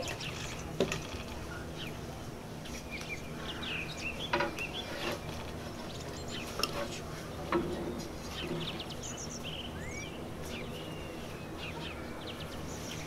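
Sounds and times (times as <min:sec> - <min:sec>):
small birds chirping: 0:00.0 - 0:13.0
steady background hum: 0:00.0 - 0:13.0.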